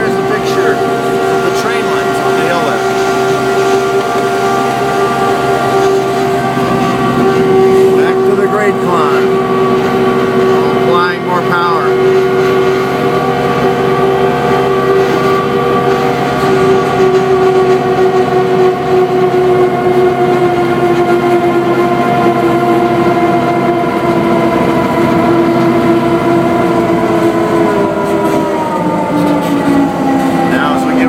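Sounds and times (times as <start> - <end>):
locomotive engine whine: 0.0 - 31.0.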